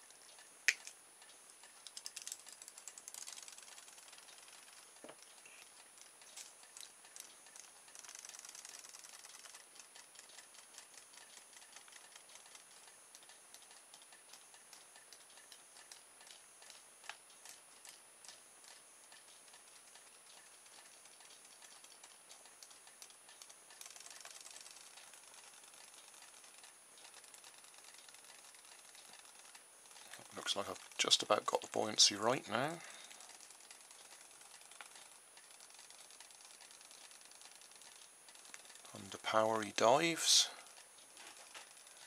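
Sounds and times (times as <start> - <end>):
toy fish motor ticking: 0.0 - 42.0.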